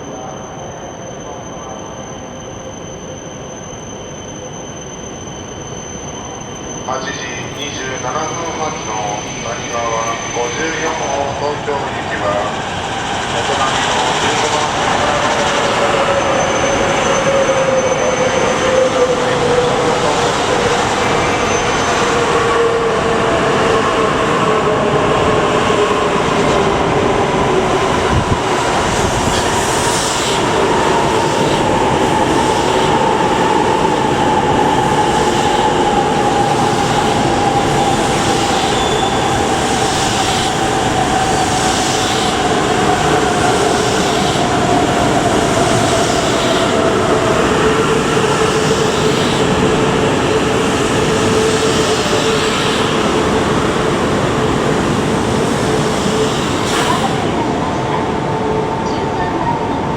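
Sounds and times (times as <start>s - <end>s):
rumble of train wheels: 0.0s - 59.9s.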